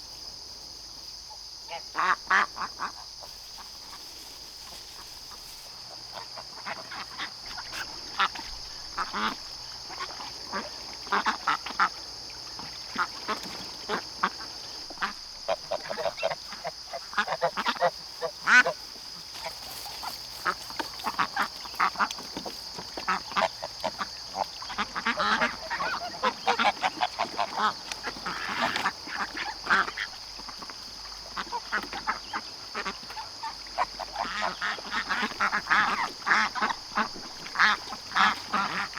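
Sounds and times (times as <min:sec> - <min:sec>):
ducks quacking: 0:01.7 - 0:04.1, 0:04.9 - 0:38.9.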